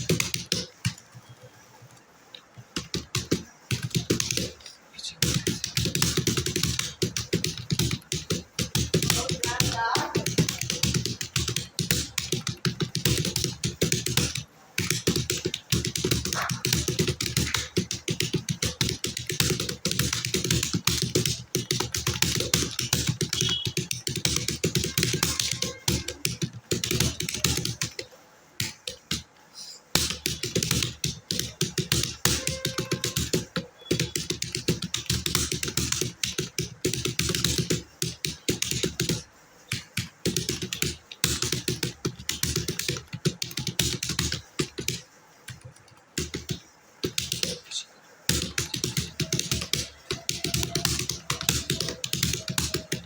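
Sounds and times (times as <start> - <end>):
typing on a computer keyboard: 0.0 - 53.0.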